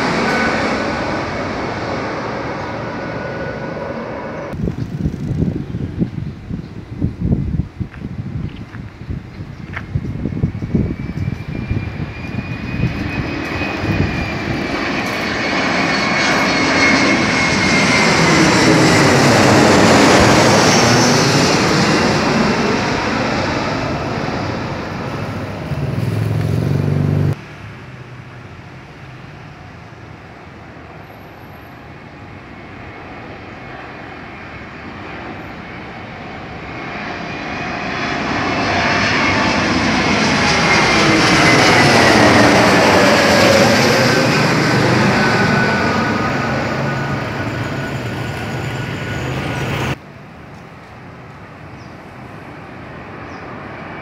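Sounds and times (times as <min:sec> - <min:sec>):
jet airliner passing overhead: 0:00.0 - 0:54.0
second airliner approaching: 0:00.0 - 0:54.0.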